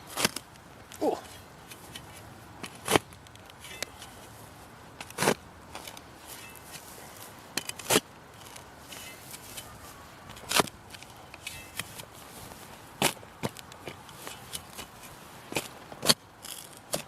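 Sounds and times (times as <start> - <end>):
spade digging stony soil: 0.0 - 4.4, 5.0 - 17.0.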